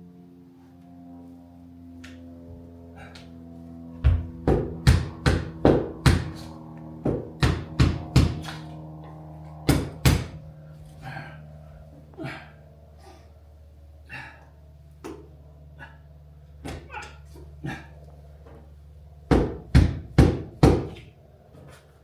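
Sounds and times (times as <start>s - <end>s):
steady multi-tone hum: 0.0s - 22.0s.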